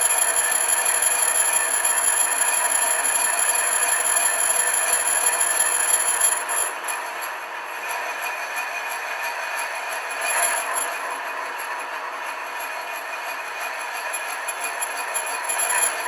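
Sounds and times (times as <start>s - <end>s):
milling machine cutting metal: 0.0s - 16.0s.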